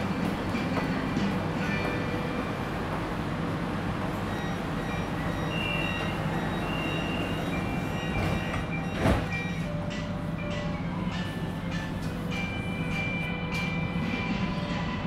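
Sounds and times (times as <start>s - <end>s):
train humming: 0.0s - 15.0s.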